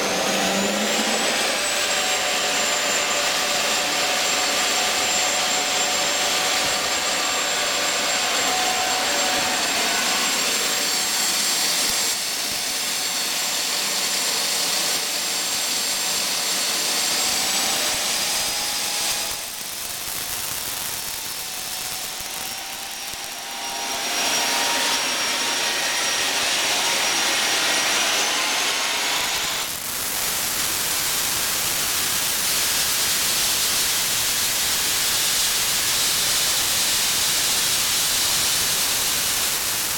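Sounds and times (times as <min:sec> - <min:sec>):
jet engine roaring and whining: 0:00.0 - 0:39.9.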